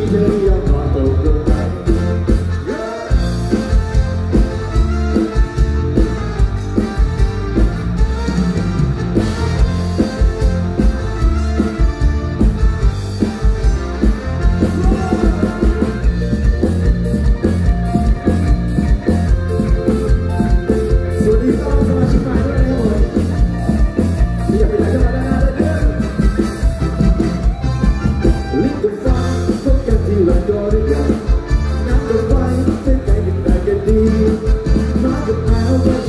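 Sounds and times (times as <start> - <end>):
guitar: 0.0 - 36.0.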